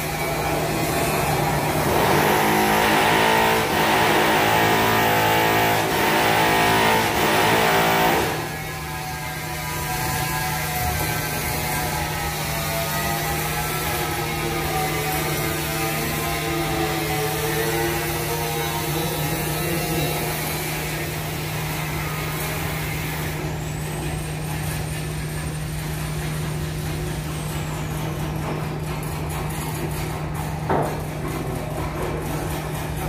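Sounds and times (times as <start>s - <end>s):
construction site noise: 0.0s - 33.0s
machine hum: 0.0s - 33.0s.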